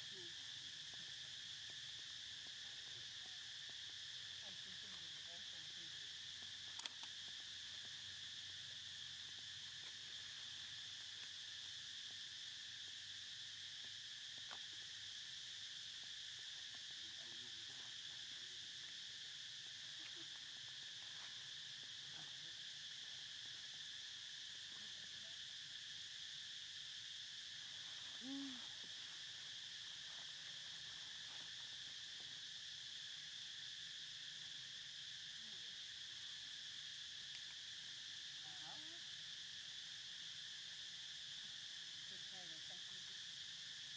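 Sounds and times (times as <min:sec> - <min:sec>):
insects chorus humming: 0:00.0 - 0:43.9.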